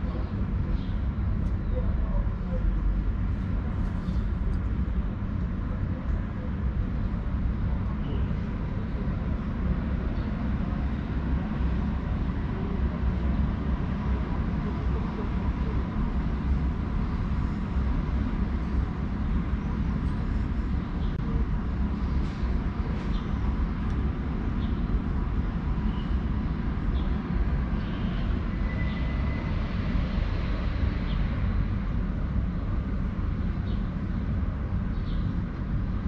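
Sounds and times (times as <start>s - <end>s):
distant road traffic rumble: 0.0s - 36.0s.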